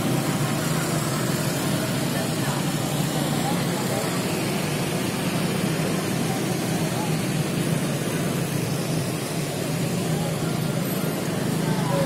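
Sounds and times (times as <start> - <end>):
hubbub of voices: 0.0 - 12.0
passing motorcycle engines: 0.0 - 12.0.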